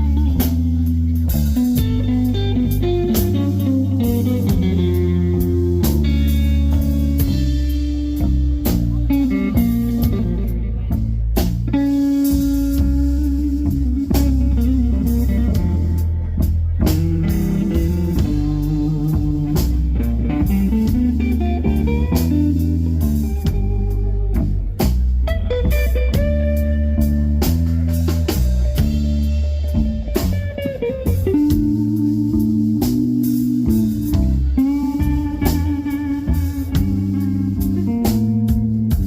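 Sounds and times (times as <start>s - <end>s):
bass: 0.0s - 39.0s
blues guitar lines: 0.0s - 39.0s
drum kit: 0.0s - 39.0s.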